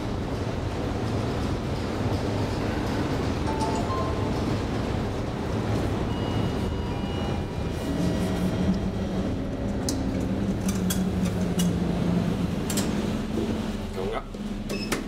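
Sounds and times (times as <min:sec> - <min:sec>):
station rumble: 0:00.0 - 0:15.0.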